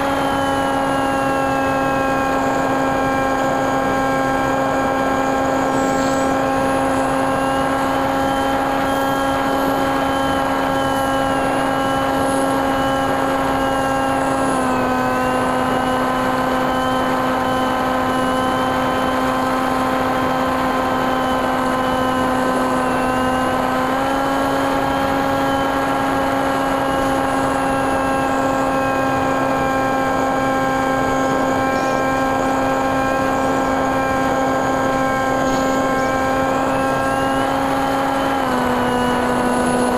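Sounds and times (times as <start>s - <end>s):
electric motor whine: 0.0s - 39.9s
propeller hum: 0.0s - 39.9s.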